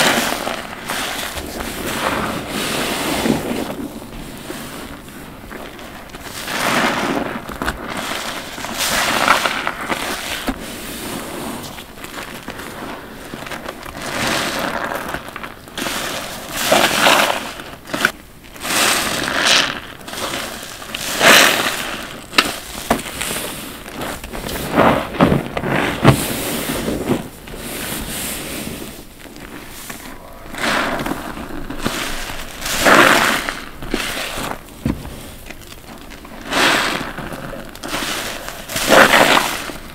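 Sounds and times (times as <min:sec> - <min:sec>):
crackling foam: 0:00.0 - 0:39.9
soapy sponge squelching: 0:00.0 - 0:39.9.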